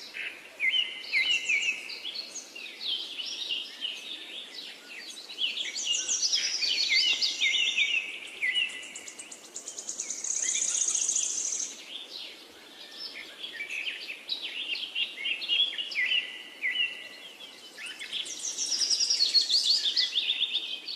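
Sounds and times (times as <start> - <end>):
songbirds singing: 0.0 - 20.9.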